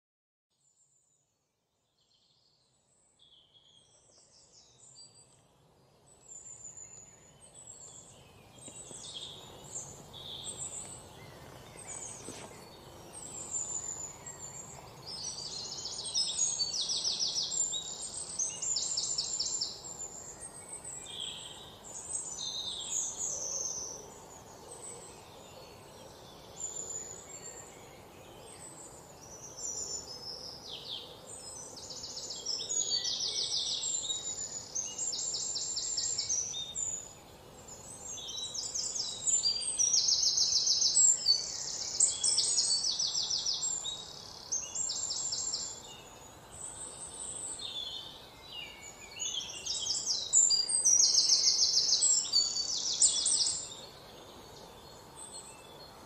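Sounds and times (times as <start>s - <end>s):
steady background hiss: 1.9s - 56.0s
birds chirping and trilling: 2.0s - 56.0s.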